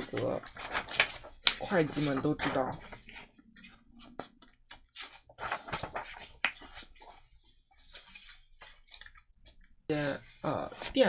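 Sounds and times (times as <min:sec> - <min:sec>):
paper and card rustling: 0:00.0 - 0:11.0.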